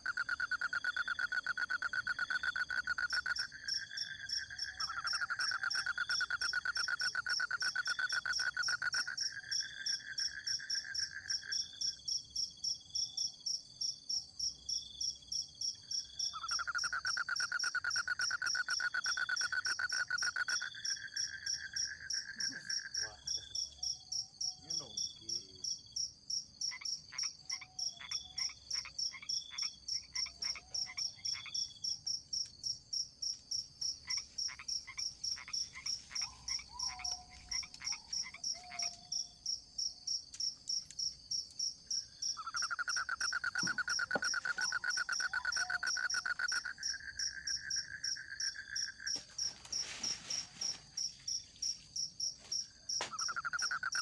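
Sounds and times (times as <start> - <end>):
insects pulsing chirp: 0.0 - 54.0.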